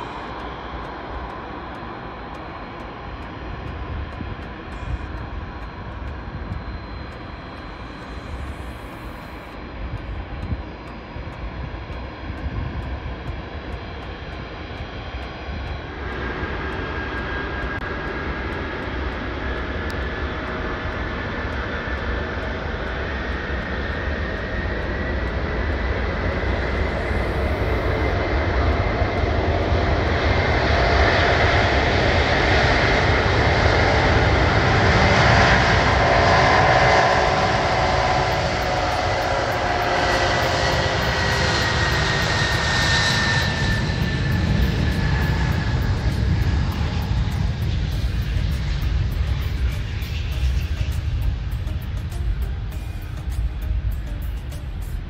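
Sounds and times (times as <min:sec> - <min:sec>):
jet engine whine: 0:00.0 - 0:55.0
jet engines roaring: 0:00.0 - 0:55.0.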